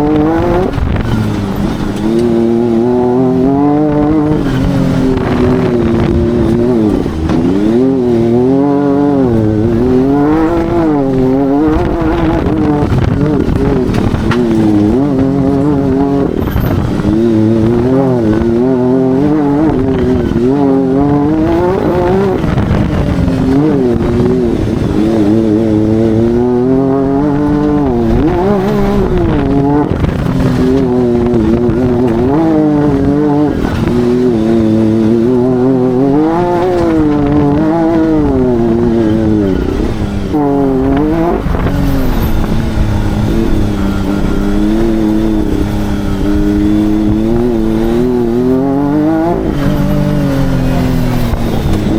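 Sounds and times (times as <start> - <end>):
engine revving hard: 0.0 - 51.9.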